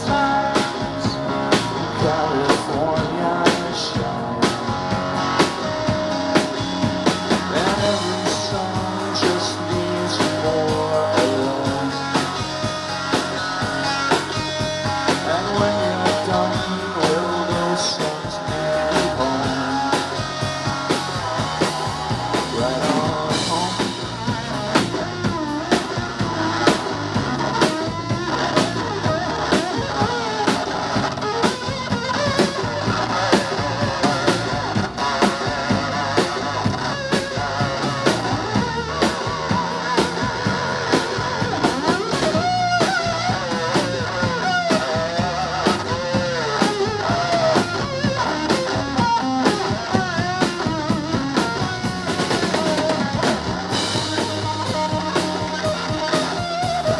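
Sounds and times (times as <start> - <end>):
drum kit steady beat: 0.0 - 56.9
electric guitars: 0.0 - 56.9.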